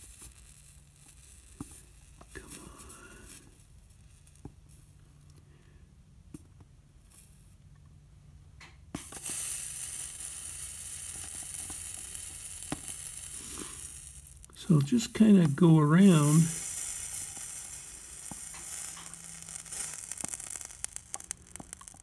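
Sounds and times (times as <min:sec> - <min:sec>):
flux sizzling under soldering iron: 0:00.0 - 0:05.4, 0:08.9 - 0:22.0.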